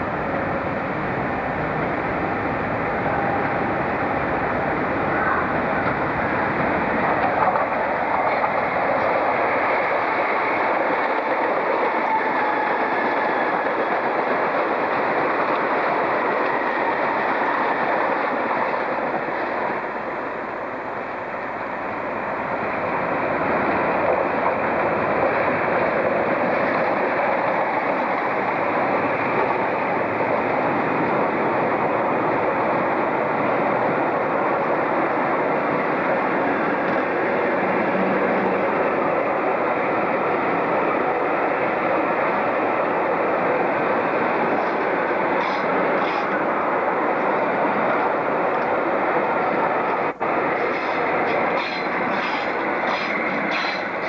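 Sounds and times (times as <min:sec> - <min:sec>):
train wheels rolling on track: 0:00.0 - 0:54.0.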